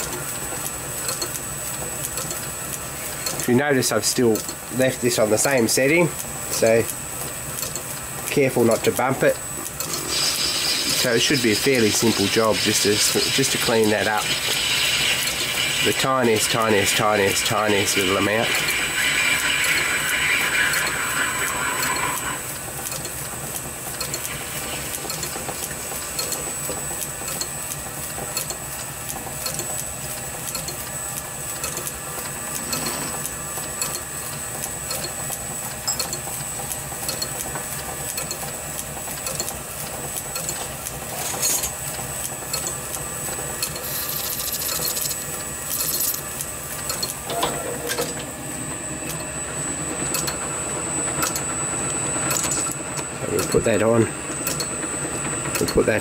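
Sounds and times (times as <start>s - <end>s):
metal lathe whirring: 0.0s - 56.0s.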